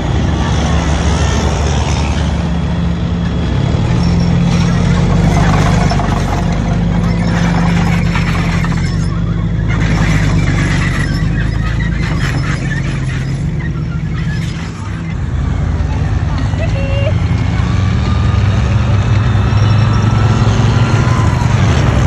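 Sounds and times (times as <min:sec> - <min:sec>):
harsh clatter of tracks: 0:00.0 - 0:22.0
tank diesel engine drone: 0:00.0 - 0:22.0.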